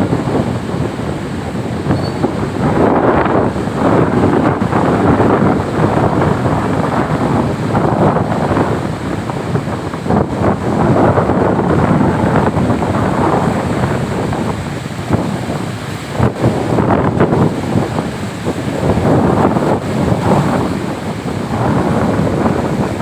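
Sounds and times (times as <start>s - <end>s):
heavy surf rushing: 0.0s - 23.0s
wind buffeting microphone: 0.0s - 23.0s.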